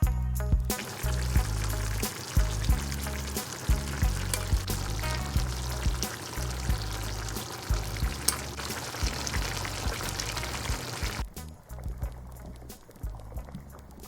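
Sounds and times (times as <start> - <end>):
background music with bass and beat: 0.0 - 14.0
steady hiss: 0.7 - 14.0.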